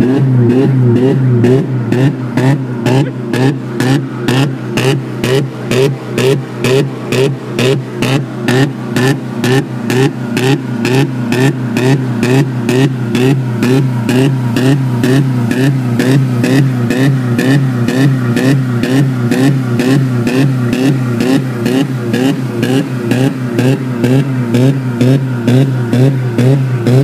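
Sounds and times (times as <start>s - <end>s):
car engine running unevenly: 0.0s - 27.0s.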